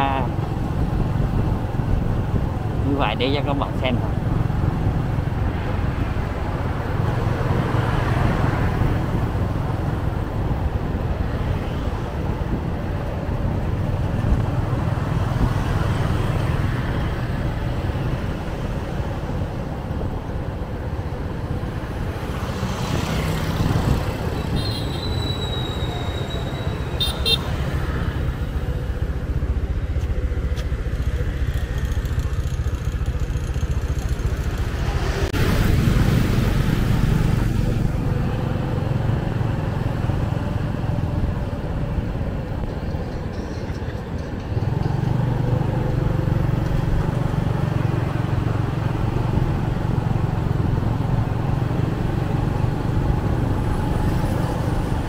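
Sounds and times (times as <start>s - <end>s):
city road traffic rumble: 0.0s - 55.0s
motorbike: 0.0s - 55.0s.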